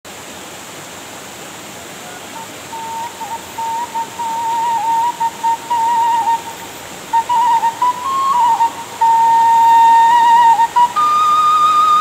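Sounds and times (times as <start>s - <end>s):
waterfall and stream rushing: 0.0s - 12.0s
bamboo flute melody: 2.0s - 12.0s.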